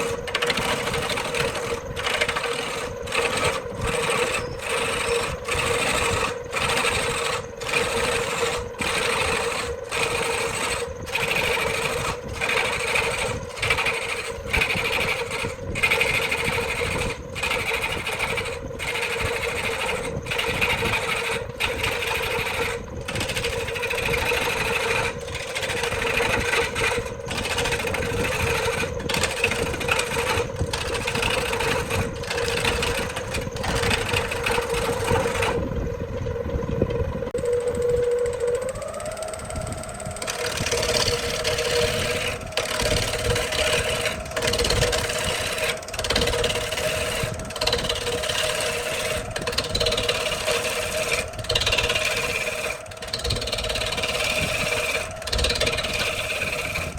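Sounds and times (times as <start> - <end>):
woodworking power tool running: 0.0 - 56.9.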